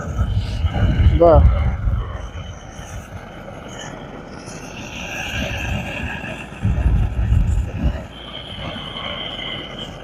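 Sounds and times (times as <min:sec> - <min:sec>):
gas torch hissing: 0:00.0 - 0:10.0
wind buffeting microphone: 0:00.0 - 0:10.0.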